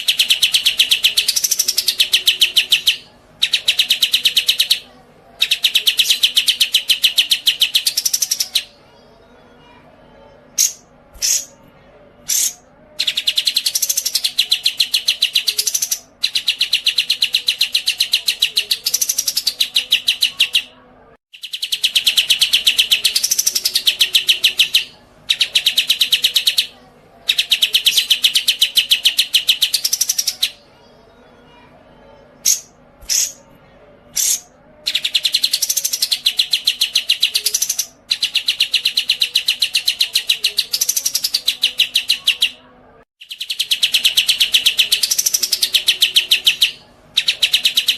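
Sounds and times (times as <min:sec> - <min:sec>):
songbird singing rapid high notes: 0:00.0 - 0:08.8, 0:10.6 - 0:11.6, 0:12.3 - 0:20.7, 0:21.3 - 0:30.6, 0:32.4 - 0:33.4, 0:34.2 - 0:42.6, 0:43.2 - 0:47.9.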